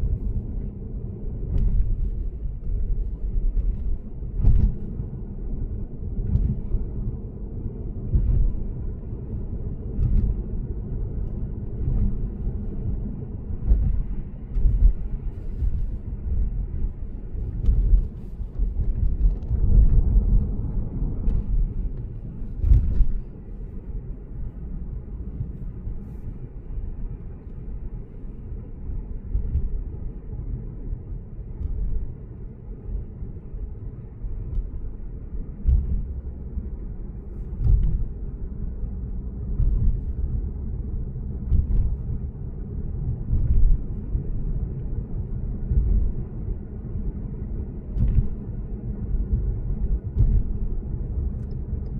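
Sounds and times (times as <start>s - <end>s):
tyre and road rumble: 0.0s - 51.9s.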